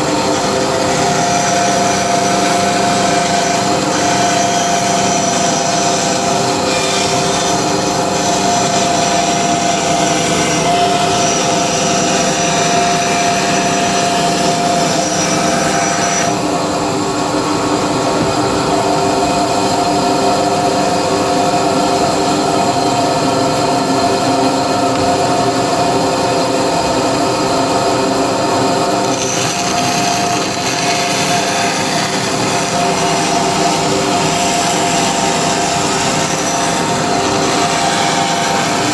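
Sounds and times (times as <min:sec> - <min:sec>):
woodworking power tool running: 0:00.0 - 0:38.9.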